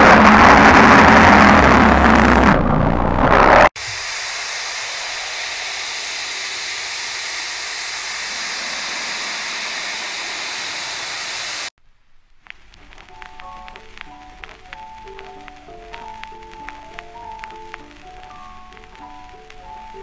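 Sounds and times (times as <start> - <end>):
tv static hiss: 0.0 - 20.0.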